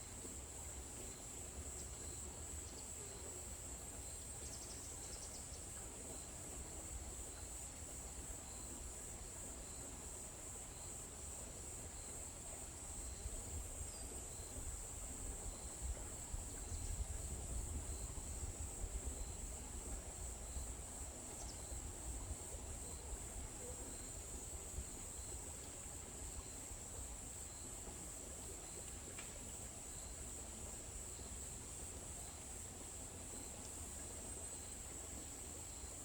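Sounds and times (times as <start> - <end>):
crickets trilling: 1.6 - 36.0.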